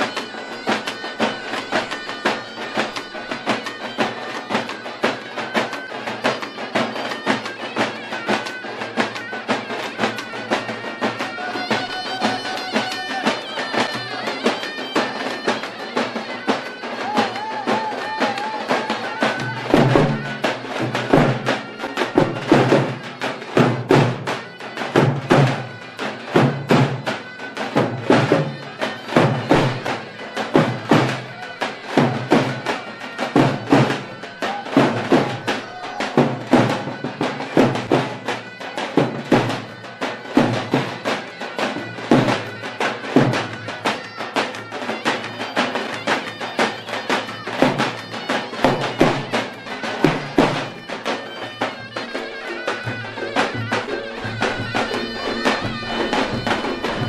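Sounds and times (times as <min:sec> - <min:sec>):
double-reed pipe melody: 0:00.0 - 0:57.0.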